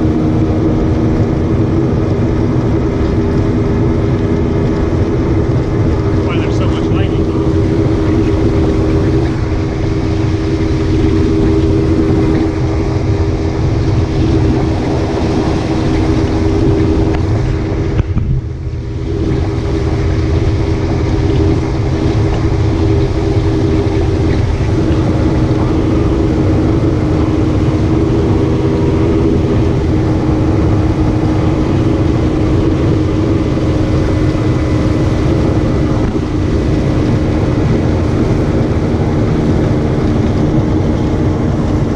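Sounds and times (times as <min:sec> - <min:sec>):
outboard motor running: 0:00.0 - 0:41.9
wind and water rushing: 0:00.0 - 0:41.9.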